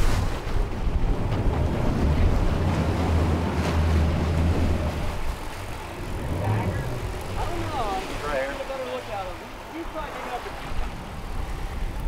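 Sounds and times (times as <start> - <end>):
outboard engines humming: 0.0 - 12.0
water splashing along boat hull: 0.0 - 12.0
wind buffeting microphone: 0.0 - 12.0.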